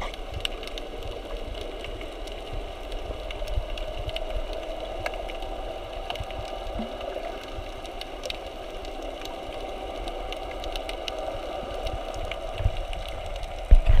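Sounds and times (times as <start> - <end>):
sharp clicks and crackles: 0.0 - 14.0.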